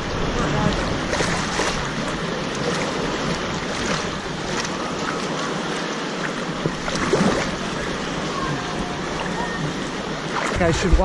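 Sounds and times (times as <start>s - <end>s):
wave pool water rushing: 0.0s - 11.0s.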